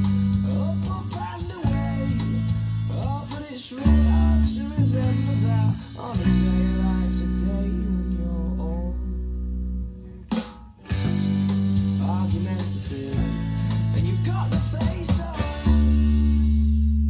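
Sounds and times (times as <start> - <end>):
man singing: 0.0 - 9.4, 11.8 - 16.4
bass and drums: 0.0 - 17.0
strummed guitars: 0.0 - 17.0.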